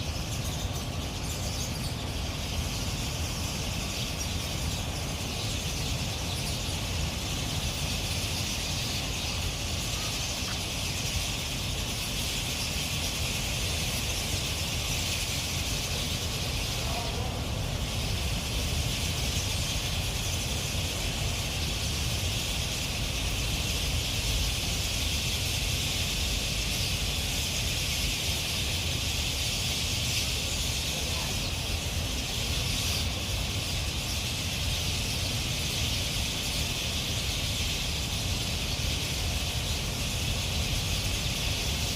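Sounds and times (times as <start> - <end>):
flock of birds chirping: 0.0 - 41.9.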